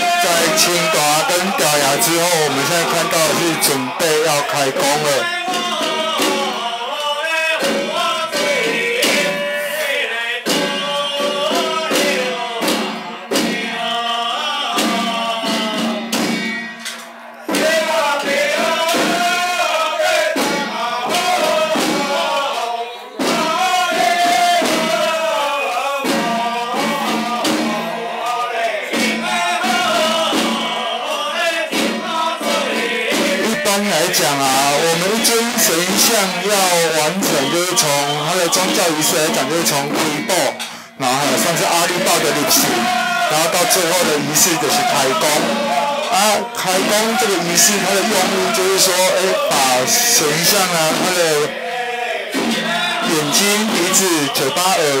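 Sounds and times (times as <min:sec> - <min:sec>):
small hand drums beating: 0:00.0 - 0:51.6, 0:52.3 - 0:55.0
men chanting together: 0:00.0 - 0:55.0.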